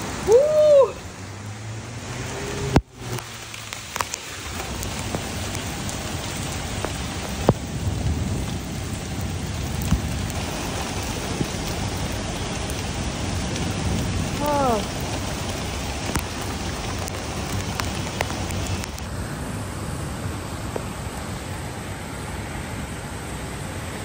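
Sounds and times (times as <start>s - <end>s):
close raindrops striking: 0.0s - 24.0s
heavy rain hissing: 0.0s - 24.0s.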